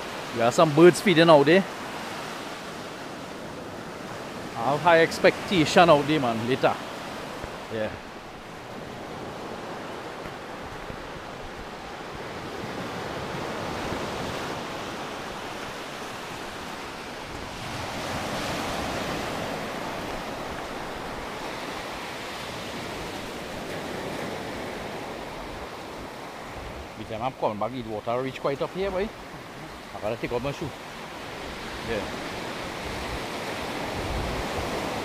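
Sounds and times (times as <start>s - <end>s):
waves breaking on a beach: 0.0s - 35.0s.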